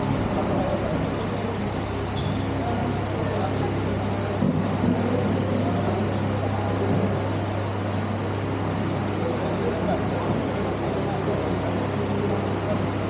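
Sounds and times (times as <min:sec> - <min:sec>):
faint indistinct voices: 0:00.0 - 0:13.0
noisy background wash: 0:00.0 - 0:13.0
steady low hum: 0:00.0 - 0:13.0.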